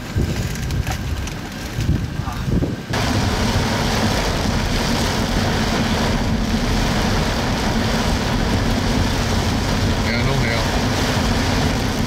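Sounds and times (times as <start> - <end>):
engine hum: 0.0 - 12.0
heavy rain on car roof: 0.0 - 12.0.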